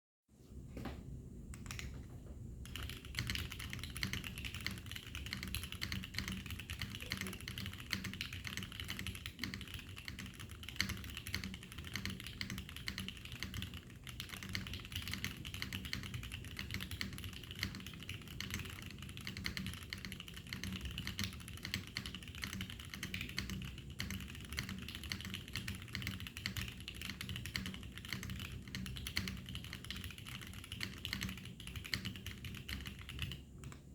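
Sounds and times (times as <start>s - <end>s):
mechanical keyboard key clacks: 2.7s - 33.8s.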